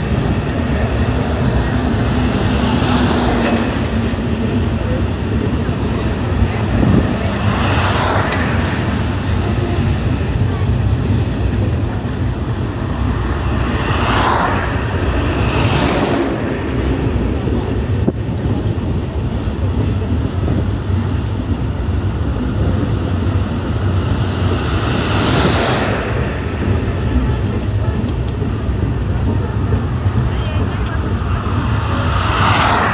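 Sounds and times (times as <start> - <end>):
passing traffic whooshes: 0.0 - 32.9
vehicle rumble and wind: 0.0 - 32.9.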